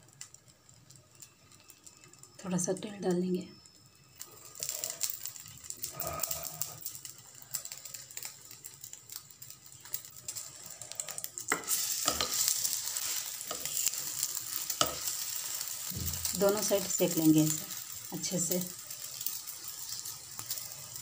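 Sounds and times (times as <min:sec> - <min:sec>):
pastry sizzling in oil: 0:00.0 - 0:21.0.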